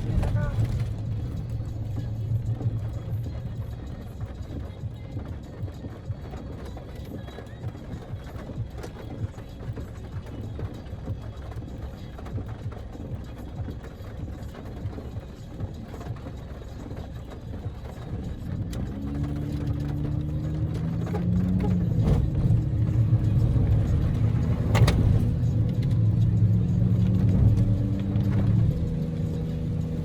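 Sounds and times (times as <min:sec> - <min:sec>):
car engine accelerating: 0:00.0 - 0:30.0
road rumble in car cabin: 0:00.0 - 0:30.0.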